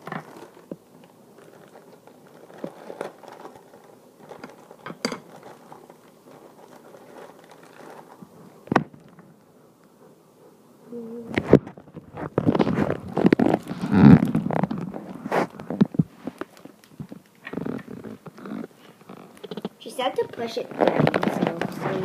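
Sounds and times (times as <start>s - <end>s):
plastic bag crinkling: 0.0s - 9.4s, 11.3s - 22.0s.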